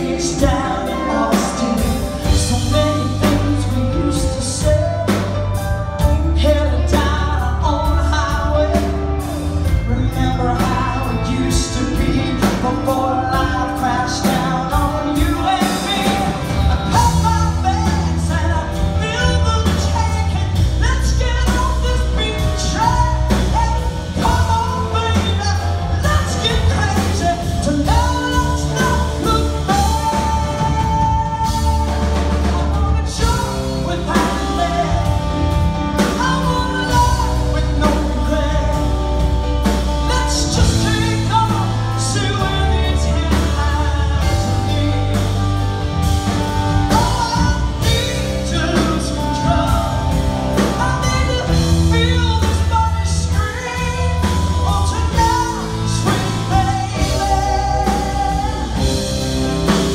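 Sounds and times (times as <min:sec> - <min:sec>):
woman singing: 0:00.0 - 0:45.8, 0:46.8 - 0:59.9
bass guitar: 0:00.0 - 0:59.9
drum kit: 0:00.0 - 0:59.9
electric guitar: 0:00.0 - 0:59.9.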